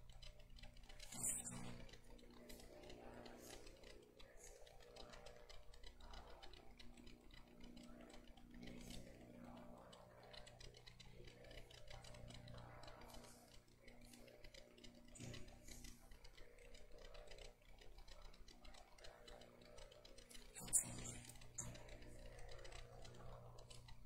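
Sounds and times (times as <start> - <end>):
light ticking: 0.0 - 24.0
low steady hum: 0.0 - 24.0.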